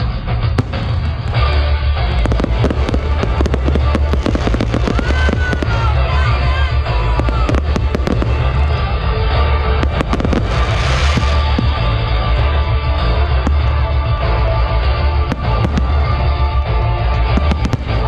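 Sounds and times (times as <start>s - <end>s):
fireworks bursting and crackling: 0.0s - 18.0s
loud stage music with heavy bass: 0.0s - 18.0s.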